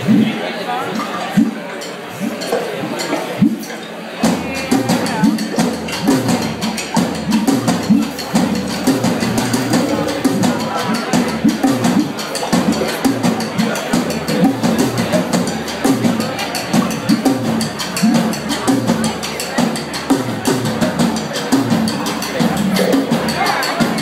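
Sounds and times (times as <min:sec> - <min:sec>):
crowd chatter: 0:00.0 - 0:24.0
drum kit beat: 0:00.0 - 0:24.0.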